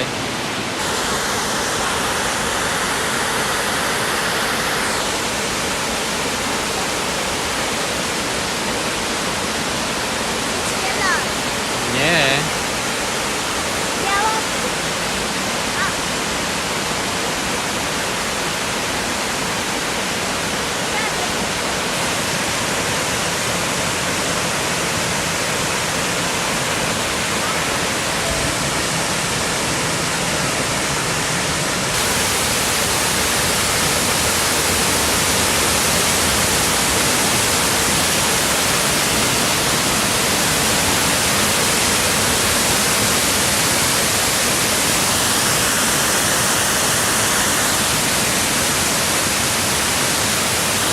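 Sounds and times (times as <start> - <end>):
rush of falling water: 0.0 - 50.9.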